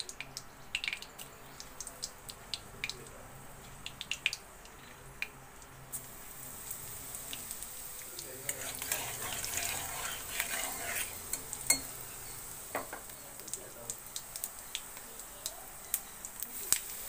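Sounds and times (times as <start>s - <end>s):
hot oil crackling and popping: 0.0s - 17.0s
seeds sizzling in oil: 0.1s - 17.0s.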